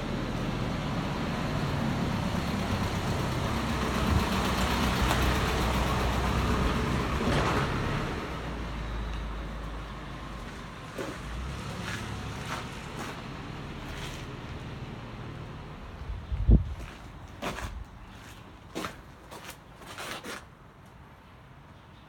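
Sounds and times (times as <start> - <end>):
vehicle passing by: 0.0 - 17.8.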